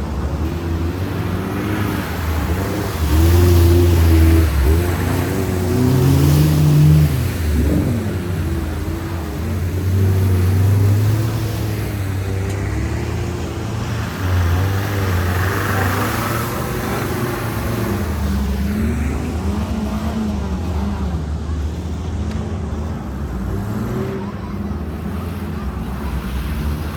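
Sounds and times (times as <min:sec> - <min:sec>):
off-road vehicle engine revving: 0:00.0 - 0:26.9.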